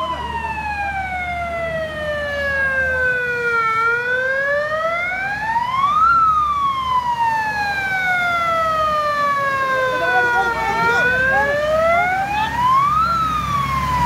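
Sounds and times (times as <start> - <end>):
fire engine siren wailing: 0.0 - 14.0.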